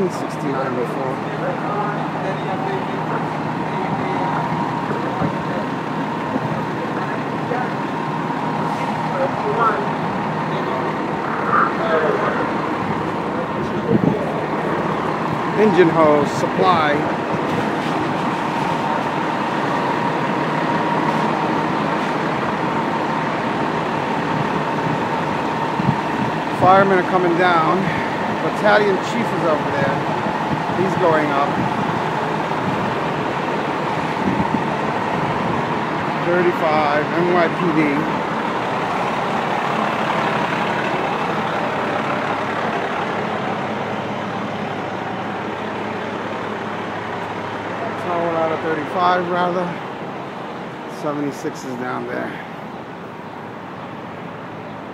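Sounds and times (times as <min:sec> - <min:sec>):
diesel engine running: 0:00.0 - 0:54.9
thin steady whine: 0:00.0 - 0:54.9.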